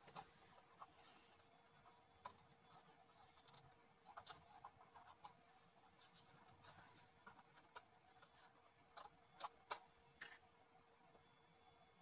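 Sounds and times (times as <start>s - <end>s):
small clicks and scratches: 0.0s - 10.5s
faint steady hum: 0.0s - 12.0s.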